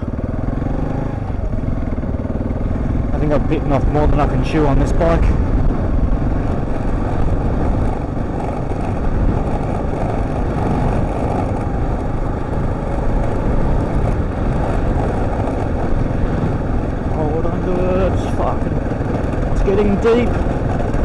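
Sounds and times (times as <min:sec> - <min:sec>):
motorcycle engine running: 0:00.0 - 0:21.0
wind rush and ride noise: 0:00.0 - 0:21.0.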